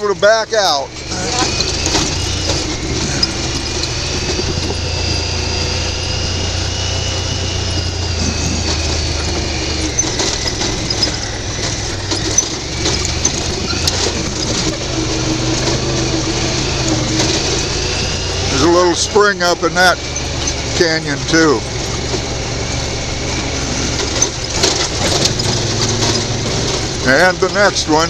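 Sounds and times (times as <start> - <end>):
high whine: 0.0 - 28.0
off-road vehicle engine humming: 0.0 - 28.0
knocks and rattles: 0.9 - 28.0.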